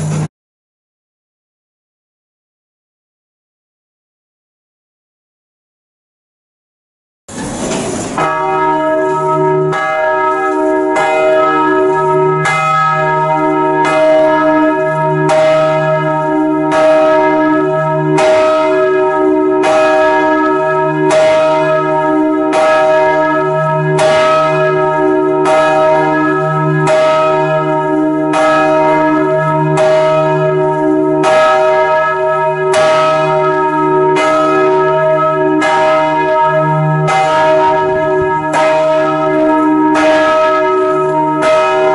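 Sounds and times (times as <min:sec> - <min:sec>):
church bells ringing: 0:08.1 - 0:41.9.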